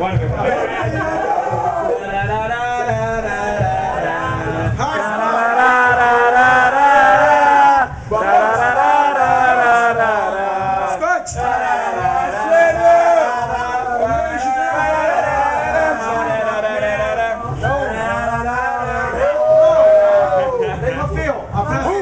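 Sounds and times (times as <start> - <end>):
group singing and chanting: 0.0 - 22.0
music with drum beat: 0.0 - 22.0.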